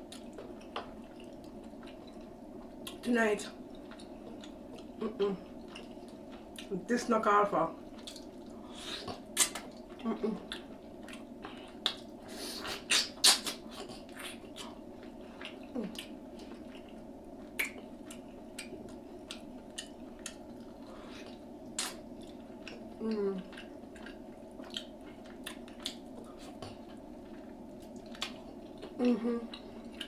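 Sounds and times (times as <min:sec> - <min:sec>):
person chewing with lip smacks: 0:00.0 - 0:03.0, 0:03.6 - 0:06.7, 0:07.9 - 0:30.0
low background hum: 0:00.0 - 0:30.0.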